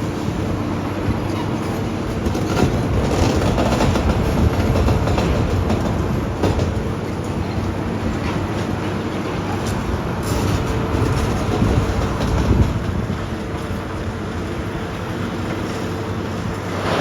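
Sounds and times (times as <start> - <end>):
demolition machinery engine drone: 0.0 - 17.0.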